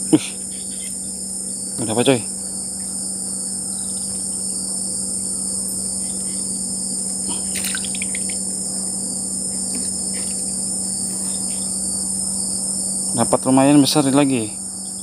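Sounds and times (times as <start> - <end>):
short calls: 0.0 - 12.4
crickets and insects chorus: 0.0 - 15.0.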